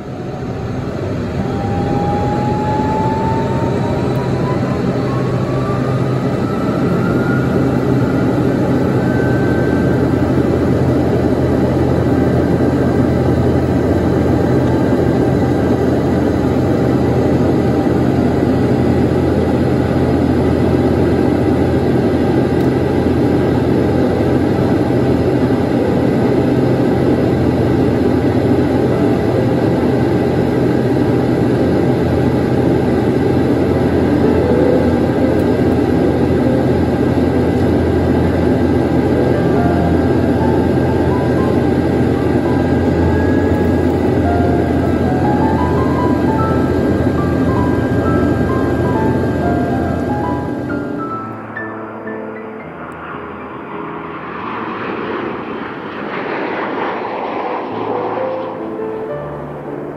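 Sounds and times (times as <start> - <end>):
engine whine climbing in pitch: 0.0 - 59.9
jet engines running: 0.0 - 59.9.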